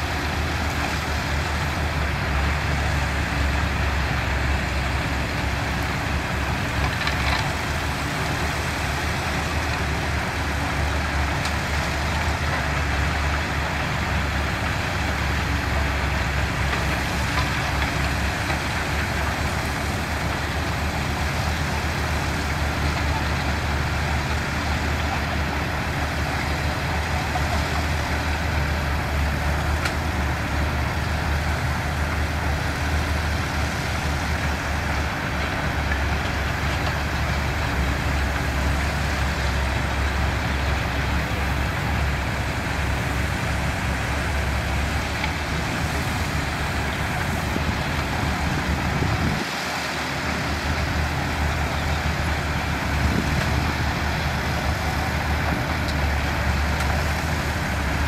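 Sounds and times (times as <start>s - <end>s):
diesel engines of heavy machinery: 0.0s - 58.0s.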